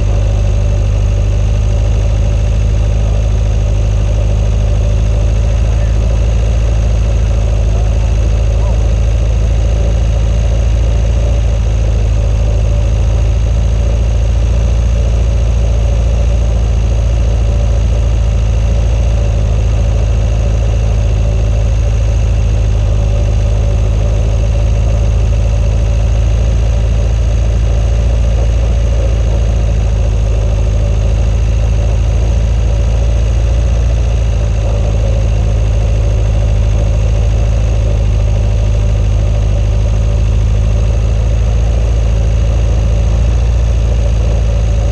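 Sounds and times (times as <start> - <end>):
swamp buggy engine rumbling: 0.0 - 44.9.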